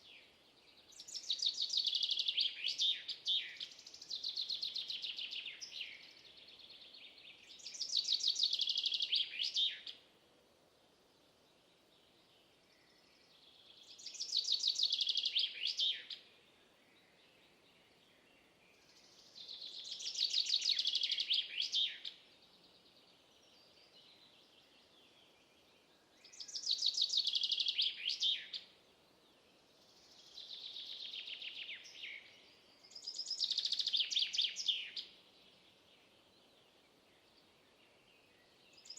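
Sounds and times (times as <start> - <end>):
faint background hiss: 0.0 - 38.9
songbird singing: 0.0 - 38.9.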